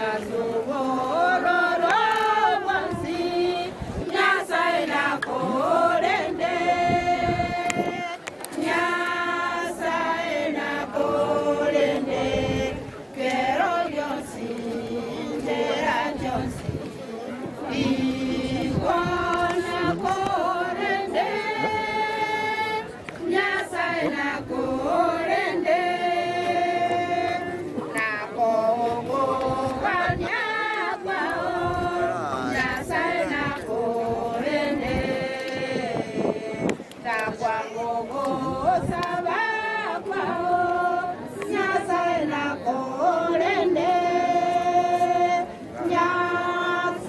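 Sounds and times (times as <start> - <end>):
group singing unaccompanied: 0.0 - 47.0.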